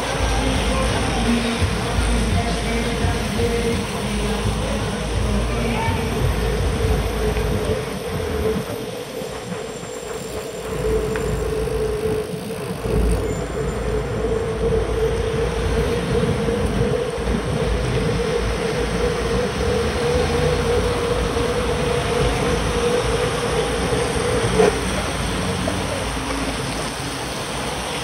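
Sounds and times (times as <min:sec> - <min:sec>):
mid-pitched whine: 0:00.0 - 0:27.0
tyres hissing on wet asphalt: 0:00.0 - 0:28.0
wind rush: 0:05.1 - 0:28.0.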